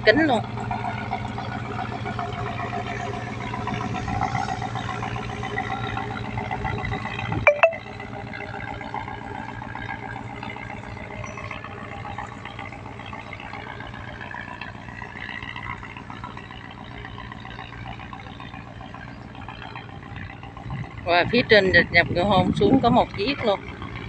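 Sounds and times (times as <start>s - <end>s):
boat diesel engine drone: 0.0s - 24.0s.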